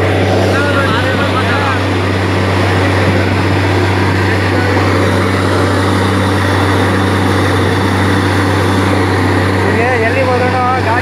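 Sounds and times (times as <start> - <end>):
drilling rig drone: 0.0 - 11.0.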